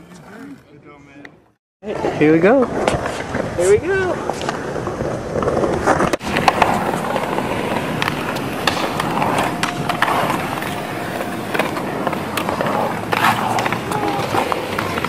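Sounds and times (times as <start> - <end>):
skateboard rolling over concrete: 1.9 - 15.0.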